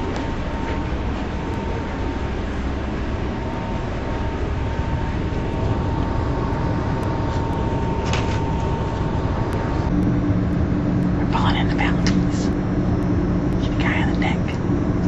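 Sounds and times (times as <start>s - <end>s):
faint steady whine: 0.0s - 15.0s
ferry engine rumble: 0.0s - 15.0s.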